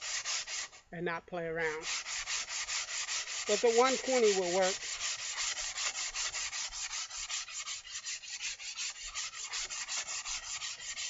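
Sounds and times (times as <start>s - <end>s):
plane sole rasping on sandpaper: 0.0s - 0.9s, 1.6s - 11.0s.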